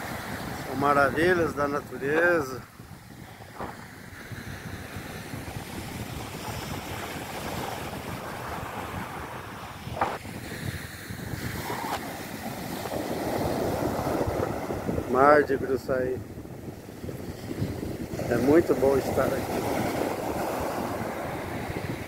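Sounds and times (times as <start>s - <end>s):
surf breaking on a beach: 0.0s - 22.0s
wind buffeting microphone: 0.0s - 22.0s.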